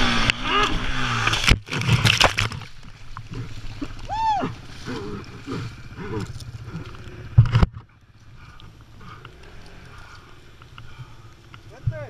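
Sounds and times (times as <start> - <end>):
quad engine running: 0.0 - 2.6, 3.2 - 12.0.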